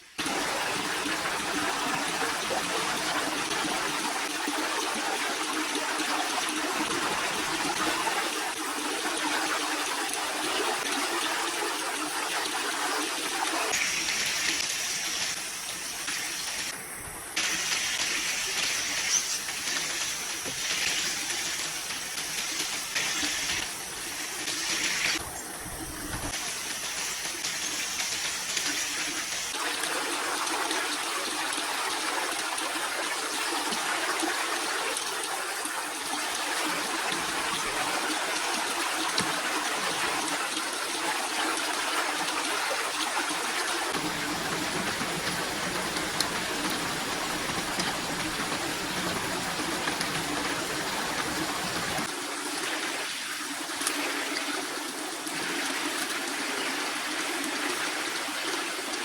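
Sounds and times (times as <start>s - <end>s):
water running steadily: 0.0s - 59.0s.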